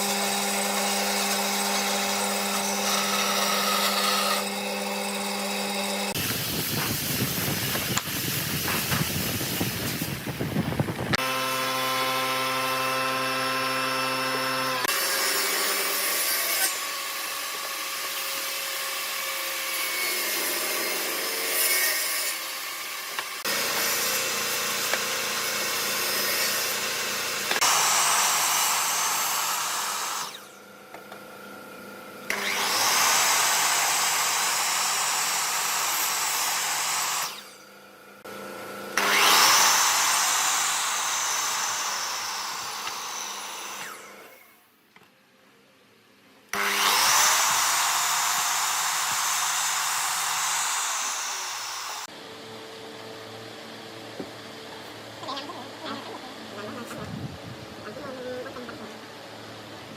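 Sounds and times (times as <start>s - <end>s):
power tool cutting wood: 0.0s - 44.6s, 46.5s - 54.6s.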